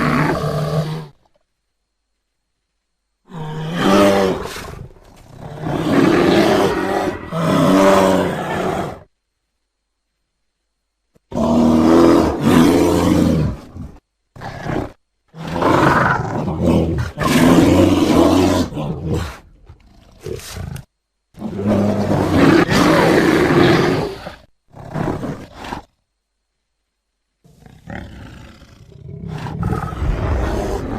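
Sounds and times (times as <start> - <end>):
bear roaring: 0.0 - 1.2, 3.3 - 9.1, 11.3 - 25.9, 27.5 - 30.9.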